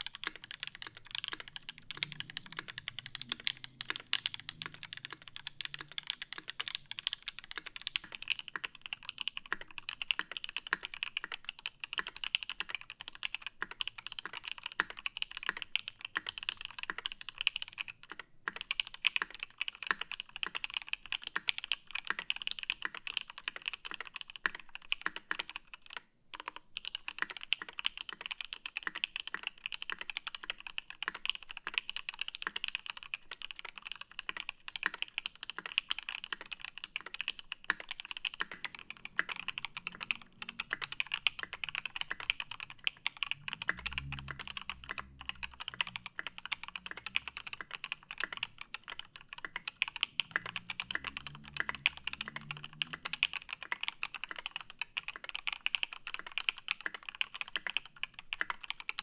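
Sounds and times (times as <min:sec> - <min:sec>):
typing on mechanical keyboard: 0:00.0 - 0:59.0.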